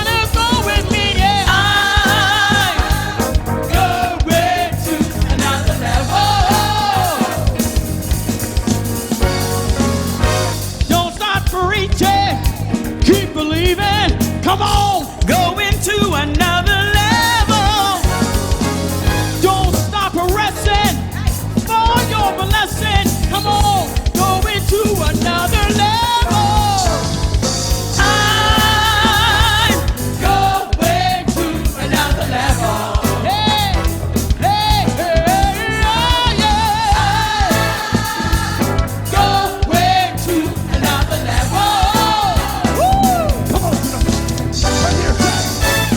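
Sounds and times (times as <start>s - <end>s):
group singing worship song: 0.0s - 11.2s, 12.3s - 45.9s
drums: 0.0s - 45.9s
guitar: 0.0s - 45.9s.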